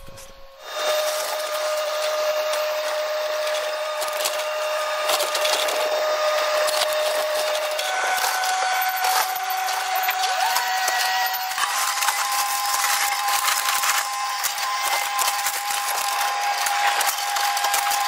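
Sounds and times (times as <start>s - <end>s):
excavator engine and hydraulics whine: 0.0s - 18.0s
wood cracking and splintering: 0.1s - 18.0s.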